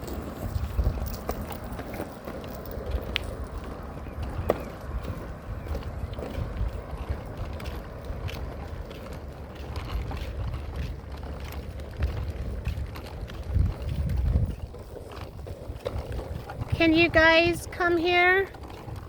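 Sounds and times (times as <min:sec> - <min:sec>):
footsteps on paved street: 0:00.0 - 0:19.0
wind buffeting microphone: 0:00.0 - 0:19.0.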